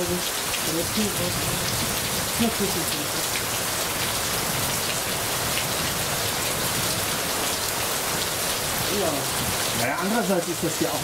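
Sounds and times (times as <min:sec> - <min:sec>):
close raindrops striking: 0:00.0 - 0:11.0
heavy rain falling: 0:00.0 - 0:11.0.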